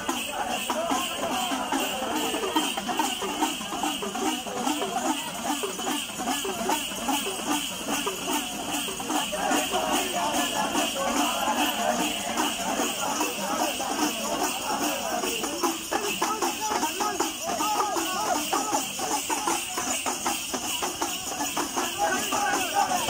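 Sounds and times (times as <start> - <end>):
fast ritual percussion: 0.0 - 23.0
jingling bells: 0.0 - 23.0.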